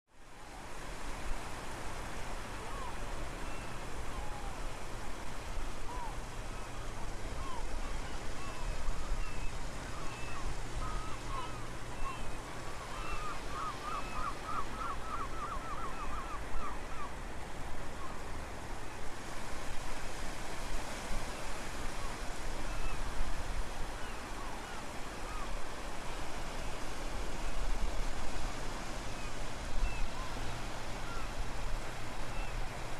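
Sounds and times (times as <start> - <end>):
sea water rushing: 0.2 - 32.9.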